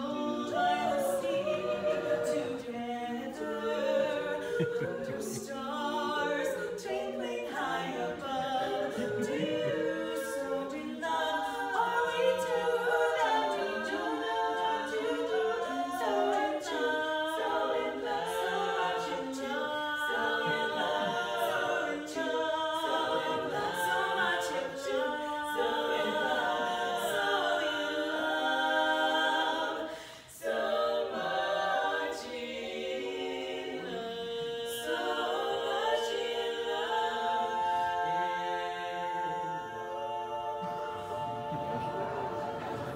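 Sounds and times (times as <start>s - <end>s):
women singing a cappella harmony: 0.0s - 42.9s.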